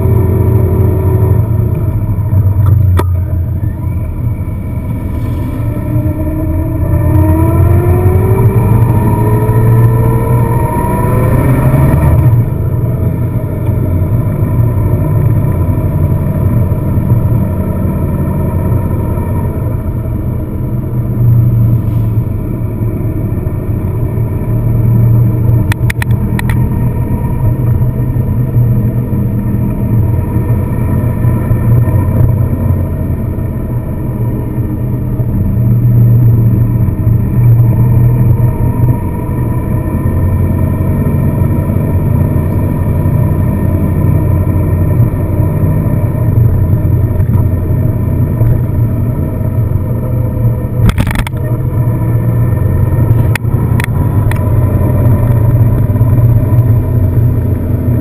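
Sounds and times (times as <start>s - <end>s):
car engine while driving: 0.0s - 58.0s.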